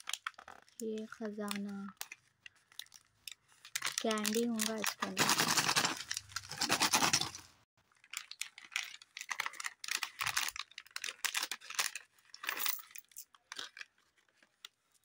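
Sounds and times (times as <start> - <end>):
plastic wrapper crinkling and tearing: 0.0 - 12.4, 13.3 - 15.0.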